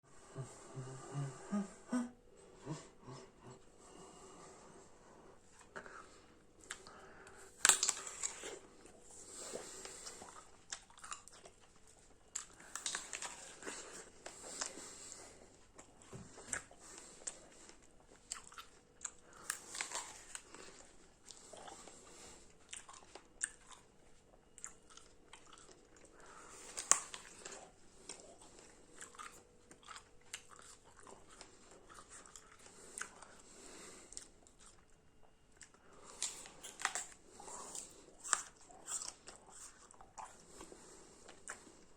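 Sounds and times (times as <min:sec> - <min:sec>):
person chewing crunchy food: 0:05.3 - 0:41.9.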